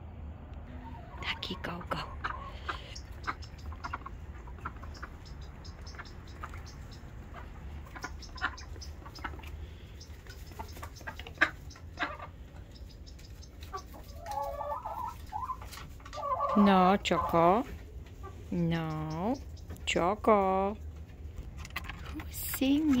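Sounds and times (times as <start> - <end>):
hens clucking: 0.6 - 23.0.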